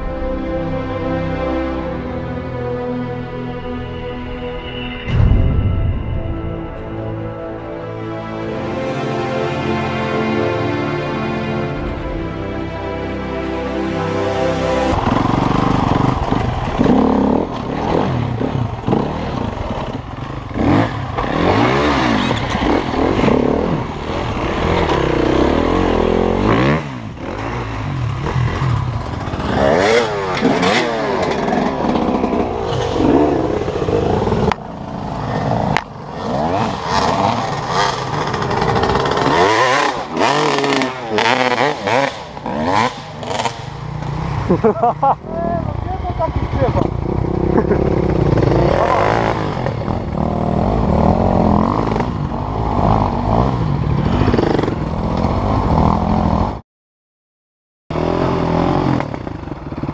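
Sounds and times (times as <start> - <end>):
dirt bike engines revving: 9.0 - 56.6, 57.9 - 59.9.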